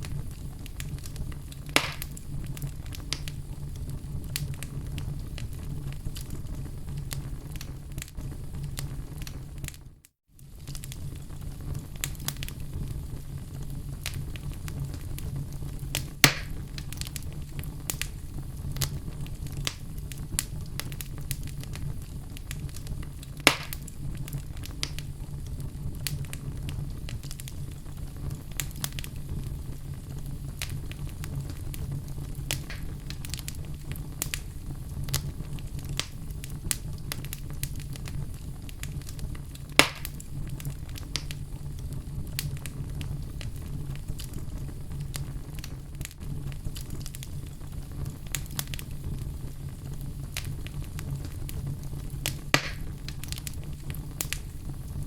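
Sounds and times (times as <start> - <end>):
fire crackling: 0.0 - 55.0
fire popping: 0.0 - 55.0
low rumble of fire: 0.0 - 55.0.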